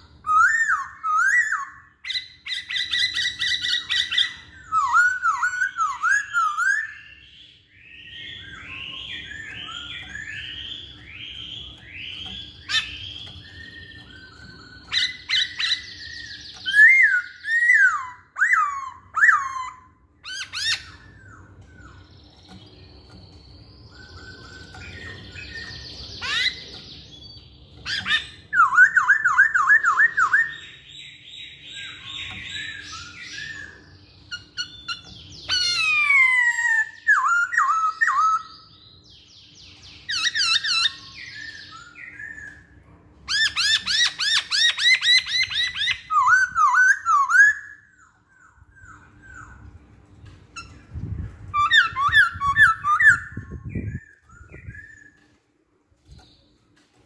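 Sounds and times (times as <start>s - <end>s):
bird singing whistled notes: 0.0s - 49.6s, 50.6s - 55.3s.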